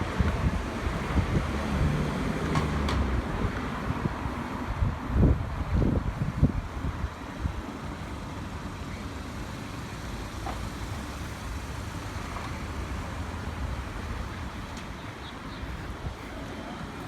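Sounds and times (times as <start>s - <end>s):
passing cars: 0.0s - 17.0s
wind rumbling on microphone: 0.0s - 17.0s.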